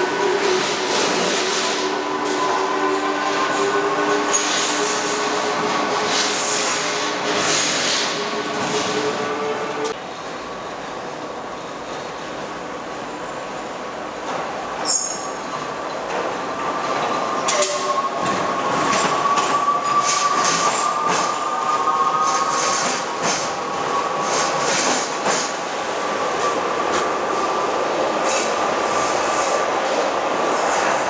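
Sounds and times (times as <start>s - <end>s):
tram whine: 0.0s - 31.0s.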